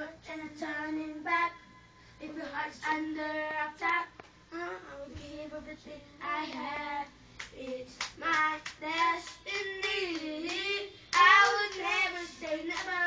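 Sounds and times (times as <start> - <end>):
child singing: 0.0 - 1.6, 2.2 - 13.0.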